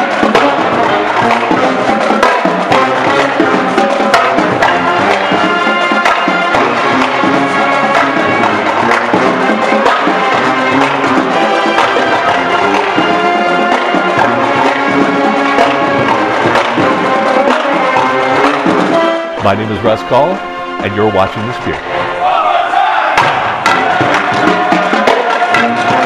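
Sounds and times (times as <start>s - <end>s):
drums: 0.0s - 20.9s, 23.1s - 26.0s
brass horns sustained notes: 0.0s - 26.0s.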